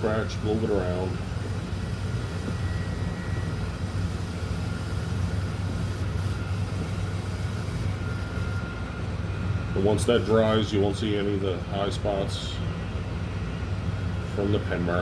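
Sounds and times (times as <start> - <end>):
low mechanical hum with whine: 0.0 - 15.0.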